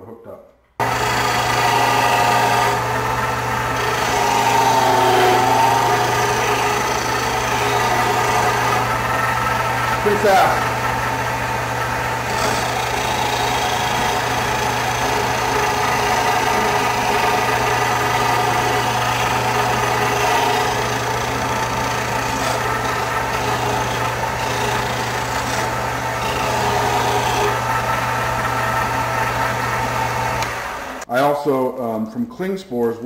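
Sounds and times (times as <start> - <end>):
wood grinding on sanding disc: 0.8 - 30.4
sander motor humming: 0.8 - 31.1.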